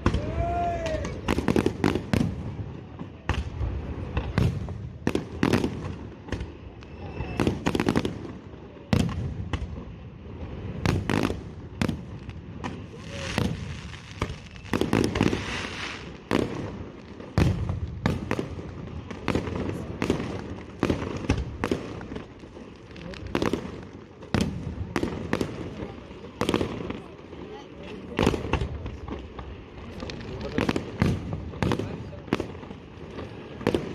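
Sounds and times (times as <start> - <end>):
fireworks bangs and booms: 0.0 - 33.9
fireworks crackling hiss: 0.0 - 33.9.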